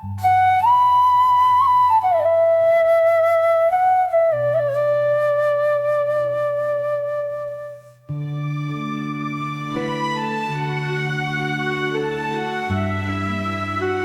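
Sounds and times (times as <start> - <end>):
flute slow melody: 0.0 - 14.0.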